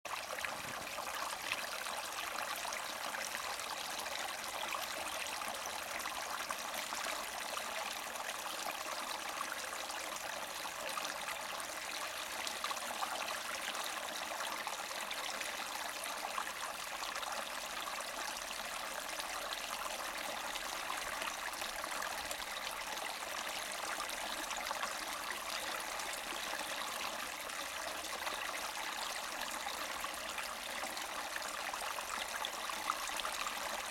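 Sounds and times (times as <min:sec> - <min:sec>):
brook gurgling over rocks: 0:00.1 - 0:33.9.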